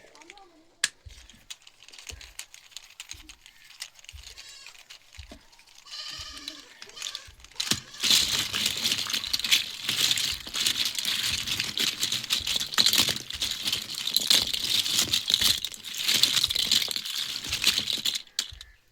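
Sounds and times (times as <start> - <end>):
plastic packaging crinkling: 0.0 - 18.9.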